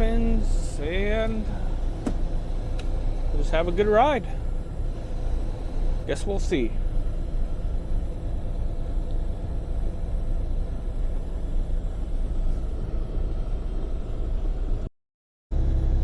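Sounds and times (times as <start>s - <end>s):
truck engine and road noise: 0.0s - 14.9s, 15.5s - 16.0s.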